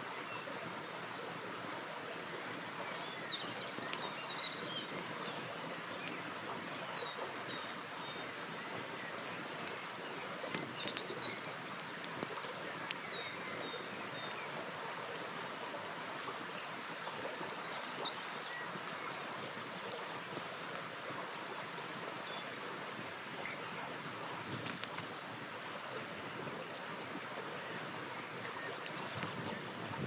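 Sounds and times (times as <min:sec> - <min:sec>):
river water rushing: 0:00.0 - 0:30.0
campfire crackling and popping: 0:00.6 - 0:21.2, 0:21.8 - 0:30.0.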